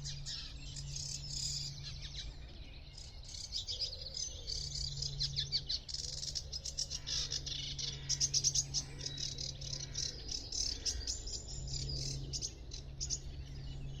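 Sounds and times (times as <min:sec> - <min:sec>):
songbirds singing: 0:00.0 - 0:14.0
steady low hum: 0:00.0 - 0:14.0.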